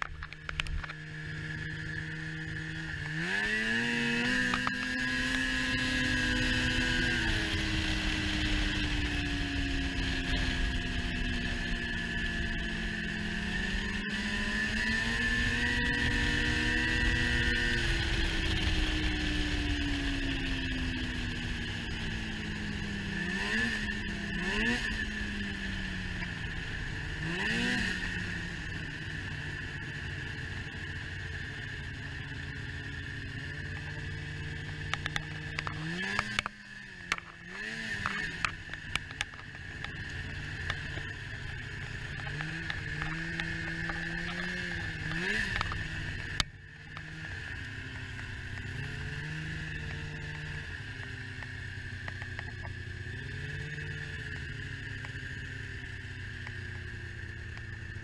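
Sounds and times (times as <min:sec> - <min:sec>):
snowmobile engine revving: 0:01.0 - 0:56.9.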